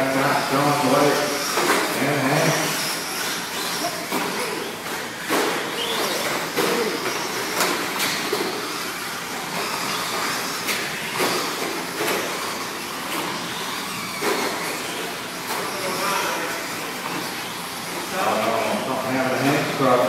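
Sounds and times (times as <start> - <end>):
toy truck motors on dirt: 0.0 - 20.0.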